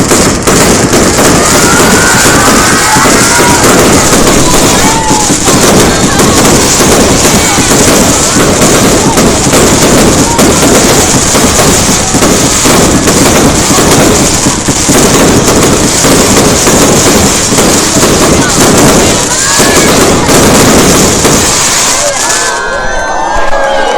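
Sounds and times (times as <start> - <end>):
fireworks bangs and crackles: 0.0 - 22.6.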